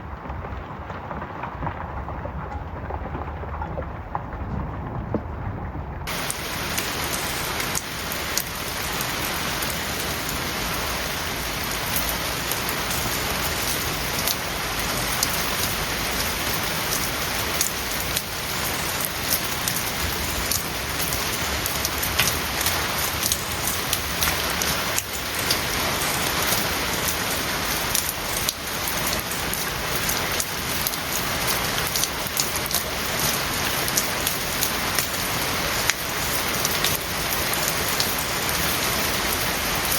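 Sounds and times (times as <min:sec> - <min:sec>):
raindrops clicking on hard surface: 0:00.0 - 0:39.9
steady rain falling: 0:00.0 - 0:39.9.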